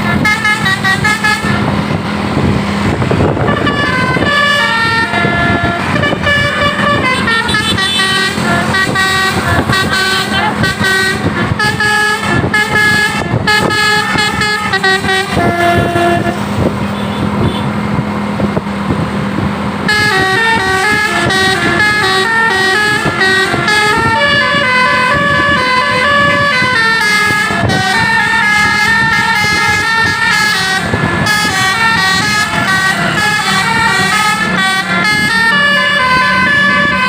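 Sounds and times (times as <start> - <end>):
multi-tone bus air horn tune: 0.0 - 2.0, 3.0 - 17.8, 19.8 - 37.0
noisy rush: 0.0 - 37.0.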